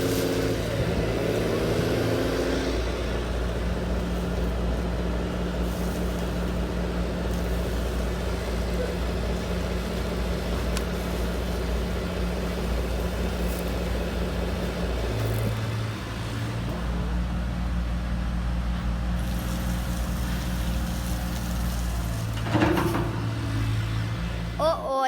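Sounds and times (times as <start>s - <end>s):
hydraulic pump and motors humming: 0.0s - 25.0s.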